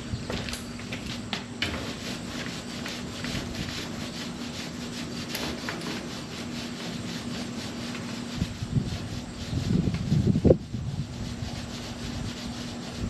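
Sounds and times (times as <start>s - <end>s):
steady low hum: 0.0s - 13.0s
rubbing strokes on car panel: 0.9s - 13.0s.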